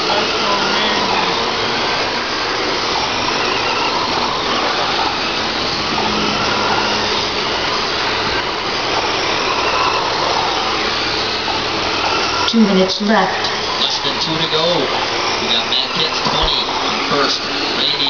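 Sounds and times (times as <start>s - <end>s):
rc truck motors whining: 0.0s - 18.0s.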